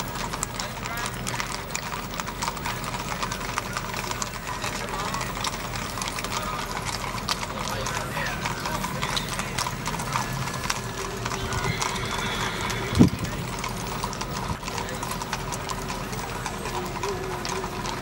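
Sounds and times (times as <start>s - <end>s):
horse hooves clip-clopping on pavement: 0.0s - 18.0s.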